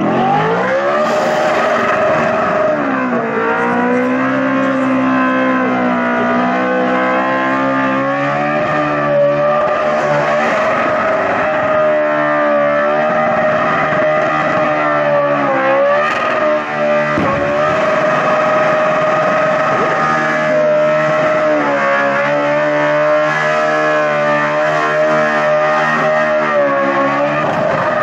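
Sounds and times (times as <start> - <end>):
car engine at very high revs: 0.0 - 28.0.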